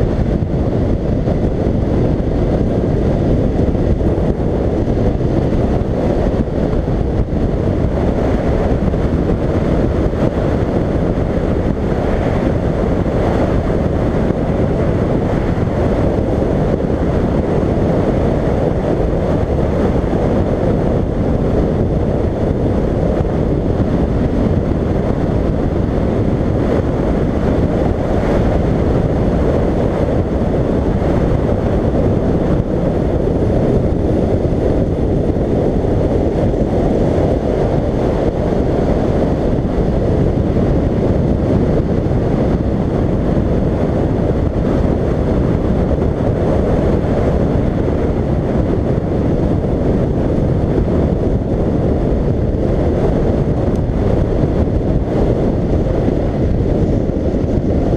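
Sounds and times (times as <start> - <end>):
motorcycle engine running: 0.0 - 57.9
wind rushing over microphone: 0.0 - 57.9.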